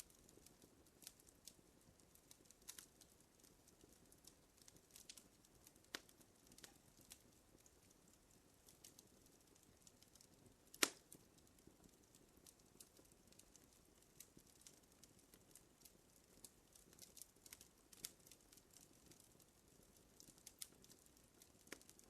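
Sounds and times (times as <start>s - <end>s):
fire crackling faintly: 0.0s - 22.0s.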